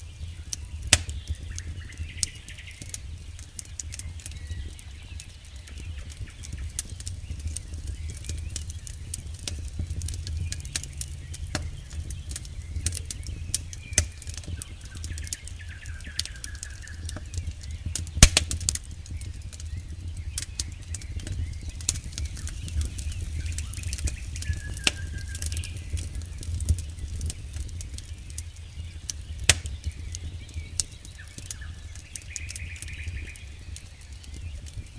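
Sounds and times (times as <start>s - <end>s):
campfire crackling and popping: 0.0s - 34.9s
low rumble of fire: 0.0s - 34.9s.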